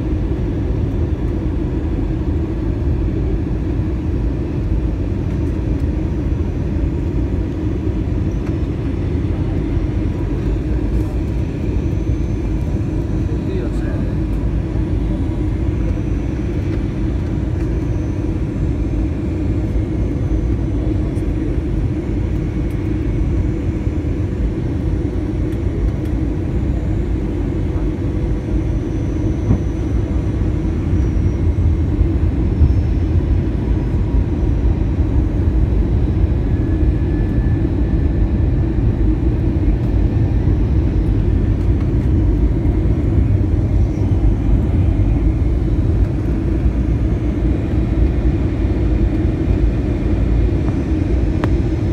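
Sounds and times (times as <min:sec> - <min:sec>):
jet engine and airflow rumble: 0:00.0 - 0:51.9.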